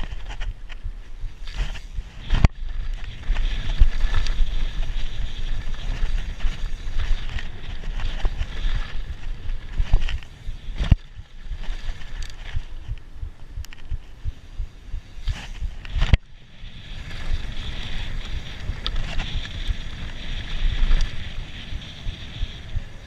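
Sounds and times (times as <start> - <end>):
bike knocking and rattling: 0.0 - 23.0
wind and tyre noise: 0.0 - 23.0.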